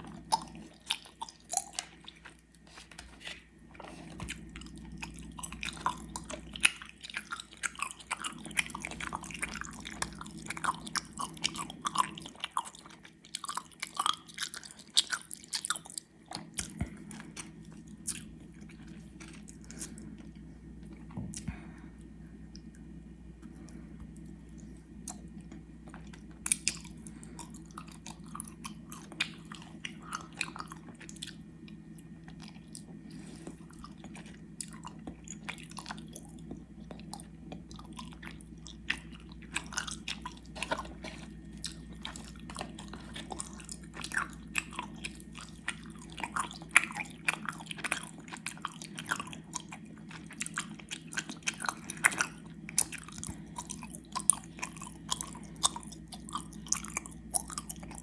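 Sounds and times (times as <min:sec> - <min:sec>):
chewing gummy sweets: 0:00.0 - 0:58.0.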